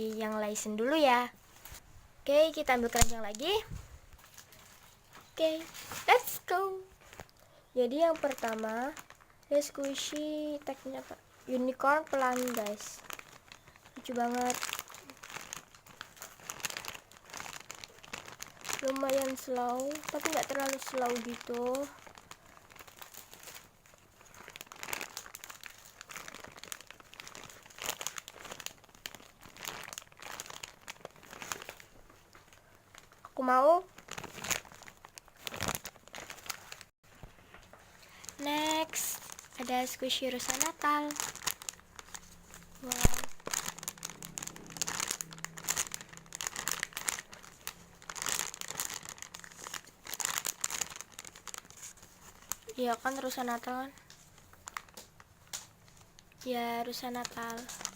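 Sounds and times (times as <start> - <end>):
plastic packaging crinkling: 0.0 - 57.9.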